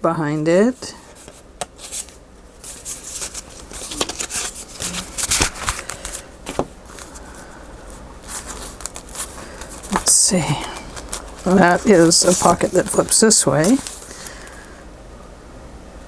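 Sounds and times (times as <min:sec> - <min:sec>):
paper and card rustling: 0:00.8 - 0:14.8.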